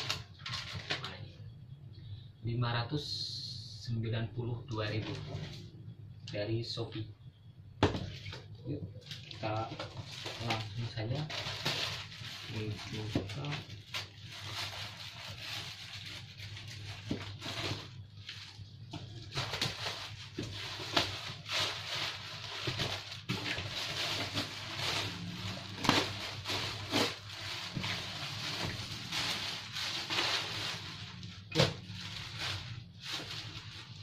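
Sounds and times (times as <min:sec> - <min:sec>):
plastic bag rustling and crinkling: 0:00.0 - 0:01.2, 0:04.7 - 0:05.8, 0:08.0 - 0:34.0.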